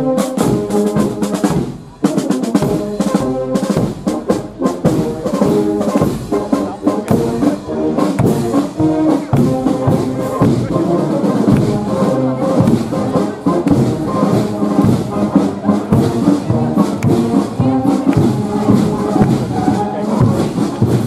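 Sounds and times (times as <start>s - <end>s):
brass band playing: 0.0s - 21.0s
people talking: 0.0s - 21.0s.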